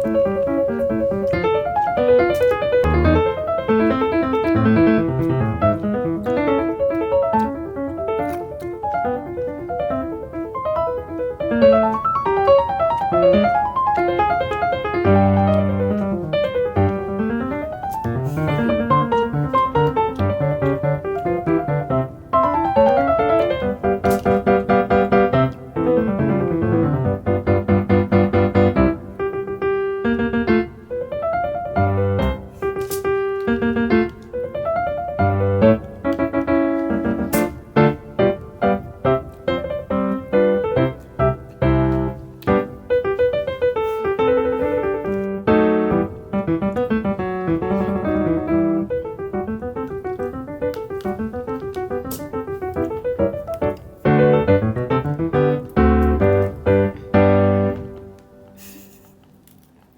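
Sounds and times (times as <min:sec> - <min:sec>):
piano music: 0:00.0 - 0:59.6.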